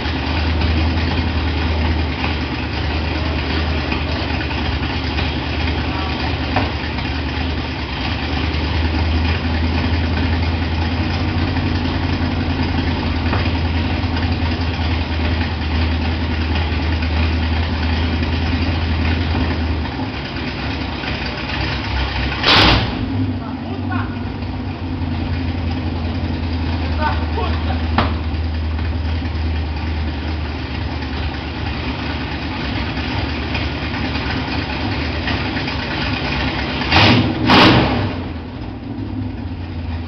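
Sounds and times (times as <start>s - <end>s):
engine idling with deep rumble: 0.0s - 40.0s.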